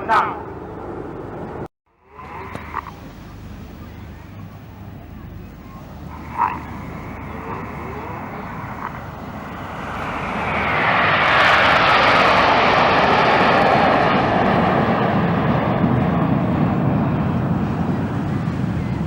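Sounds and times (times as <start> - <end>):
jets roaring past: 0.0 - 19.0.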